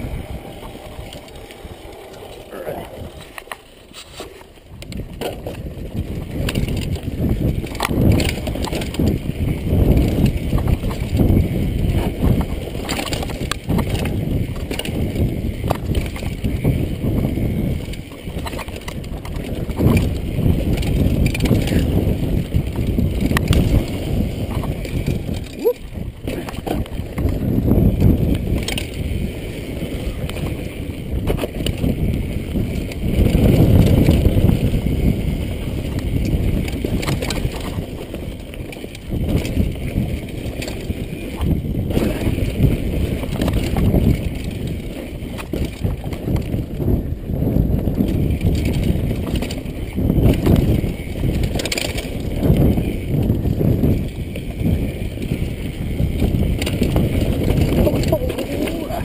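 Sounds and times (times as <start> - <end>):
tyres rumbling over dirt: 0.0 - 59.0
wind buffeting microphone: 0.0 - 59.0.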